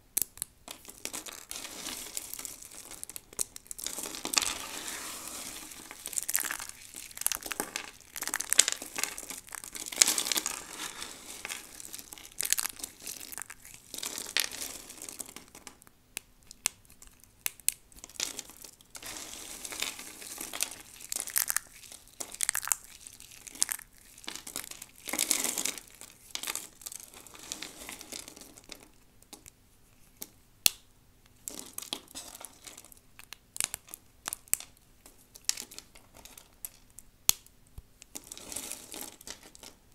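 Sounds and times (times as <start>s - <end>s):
dry soap crackling when crumbled: 0.2s - 39.9s.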